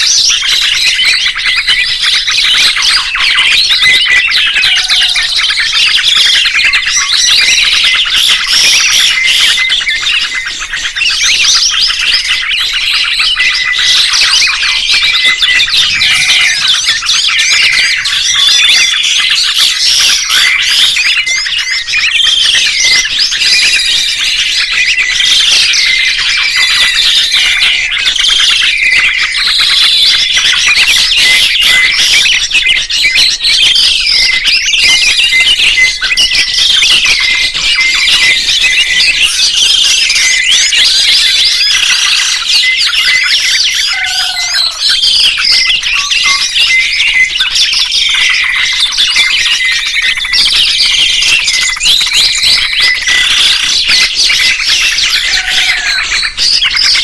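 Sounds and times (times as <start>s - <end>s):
songbirds chirping in chorus: 0.0s - 57.0s.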